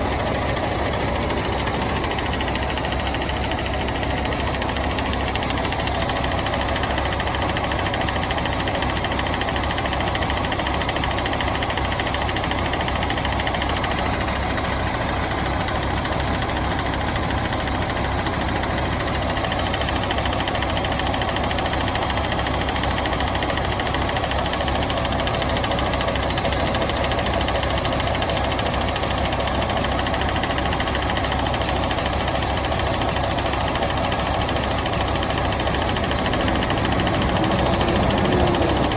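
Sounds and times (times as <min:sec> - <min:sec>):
bus diesel engine idling: 0:00.0 - 0:38.9.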